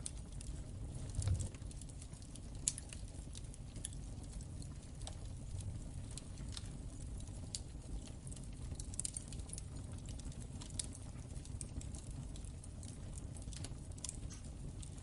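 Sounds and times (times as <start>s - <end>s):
burning wood popping and snapping: 0.0s - 15.0s
low rumble of fire flames: 0.0s - 15.0s.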